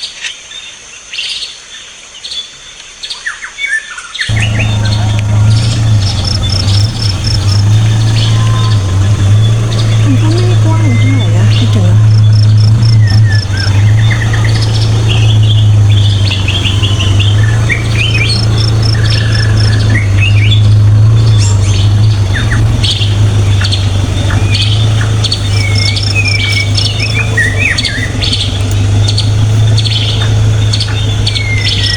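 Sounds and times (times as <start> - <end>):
birds chirping and whistling: 4.3 - 31.9
loud steady low hum: 4.3 - 31.9.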